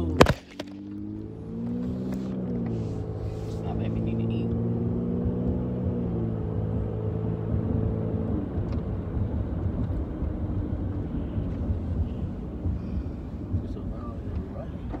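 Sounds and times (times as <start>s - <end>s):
car engine drone: 0.0s - 15.0s
road rumble: 0.0s - 15.0s.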